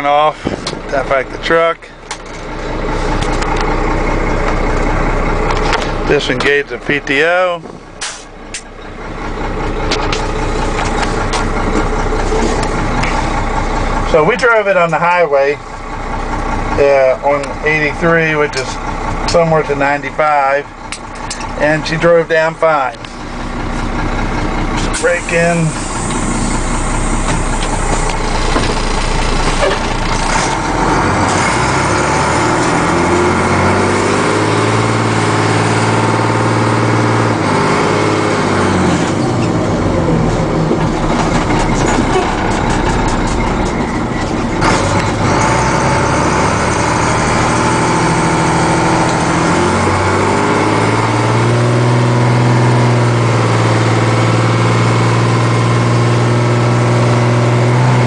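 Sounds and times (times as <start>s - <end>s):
diesel truck engine under load: 0.0s - 58.0s.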